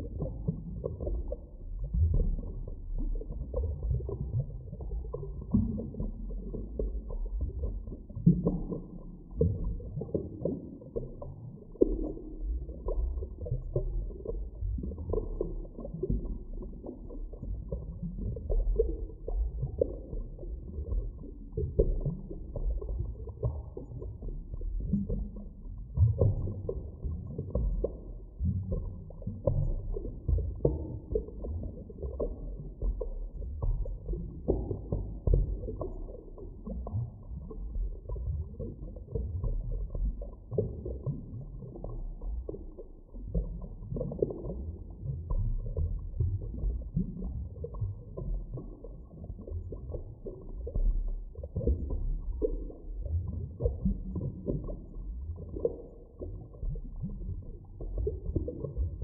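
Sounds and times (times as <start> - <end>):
muffled underwater rumble: 0.0 - 59.0.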